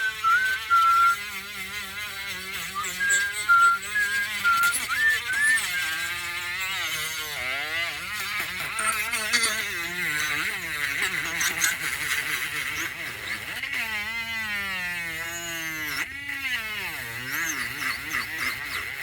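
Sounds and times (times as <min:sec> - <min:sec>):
electric sander running: 0:00.0 - 0:19.0.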